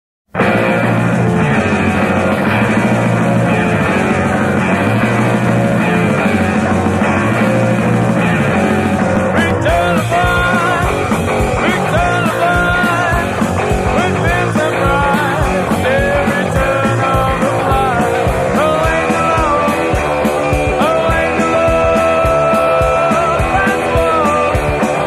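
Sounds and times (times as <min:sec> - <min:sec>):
rock band playing: 0:00.3 - 0:25.0.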